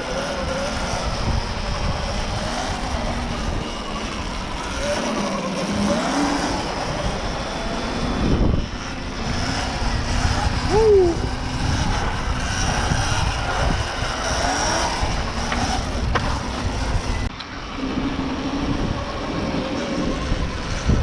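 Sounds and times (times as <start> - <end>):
faint electric motor whine: 0.0 - 21.0
wind rumble on microphone: 0.0 - 21.0.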